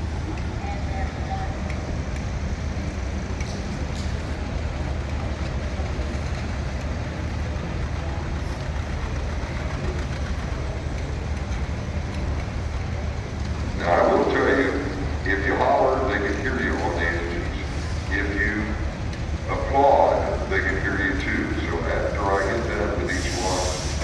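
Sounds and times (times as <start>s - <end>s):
low engine rumble: 0.0s - 24.0s
outdoor background noise: 0.0s - 24.0s.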